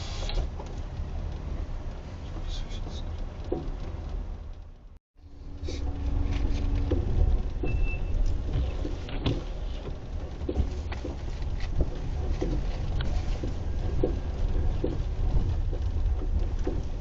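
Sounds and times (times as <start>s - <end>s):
car low rumble: 0.0s - 17.0s
suspension knocking: 0.4s - 17.0s.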